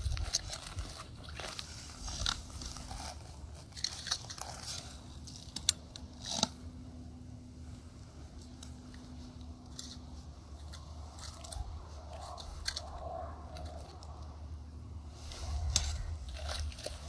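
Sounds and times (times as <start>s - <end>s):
crunching snow and ice: 0.0s - 17.0s.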